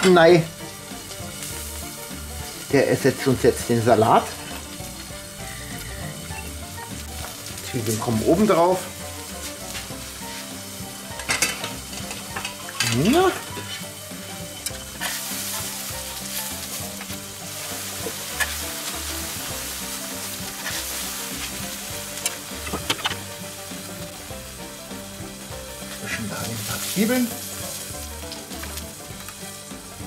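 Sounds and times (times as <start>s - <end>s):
meat sizzling on a grill: 0.0s - 30.0s.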